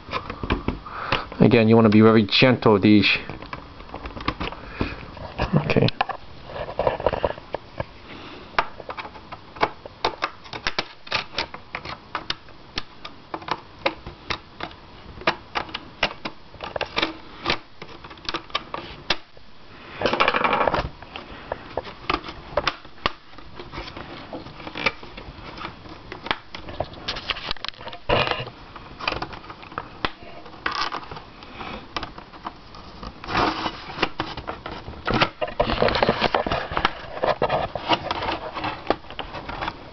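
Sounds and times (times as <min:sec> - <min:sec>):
scraping and handling noise: 0:00.0 - 0:39.9.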